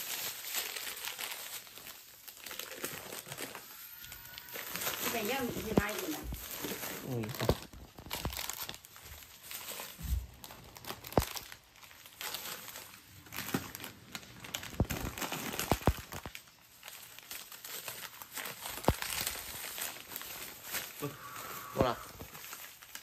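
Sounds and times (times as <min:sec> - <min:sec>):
plastic bag rustling: 0:00.0 - 0:23.0.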